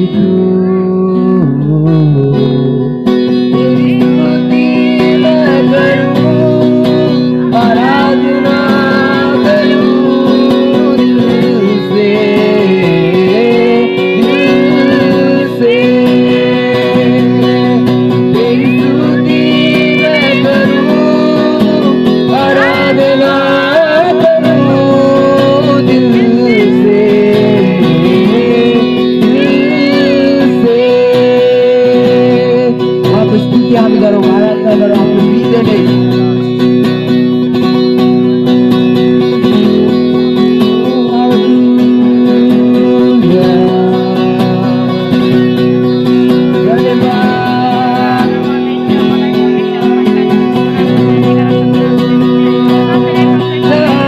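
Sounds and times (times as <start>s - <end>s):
acoustic guitar strumming: 0.0s - 54.0s
man singing into microphone: 0.0s - 54.0s.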